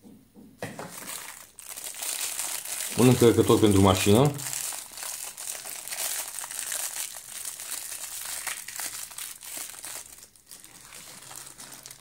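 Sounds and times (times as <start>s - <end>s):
soft plastic rustling: 0.6s - 12.0s
plastic bag crinkling: 0.8s - 12.0s.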